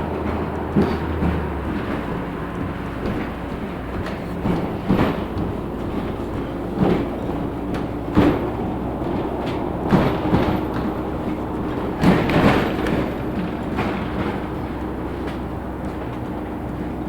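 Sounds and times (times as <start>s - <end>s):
bus body rattling over bumps: 0.0s - 17.0s
bus engine and road hum: 0.0s - 17.0s.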